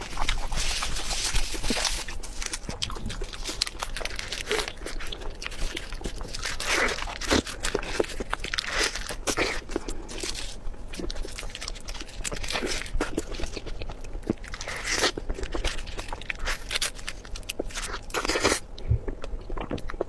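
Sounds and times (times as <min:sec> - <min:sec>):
chewing and biting: 0:00.0 - 0:20.0.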